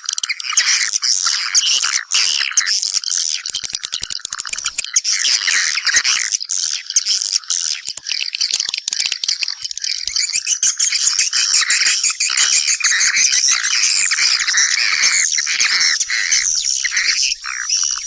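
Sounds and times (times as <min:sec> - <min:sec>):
swiftlets twittering and chirping: 0:00.0 - 0:18.0.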